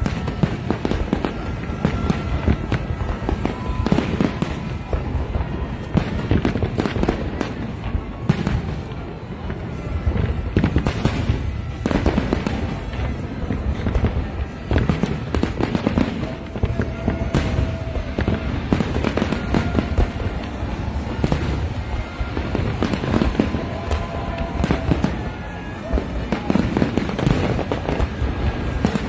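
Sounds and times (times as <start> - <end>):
fireworks bursts and bangs: 0.0 - 29.0.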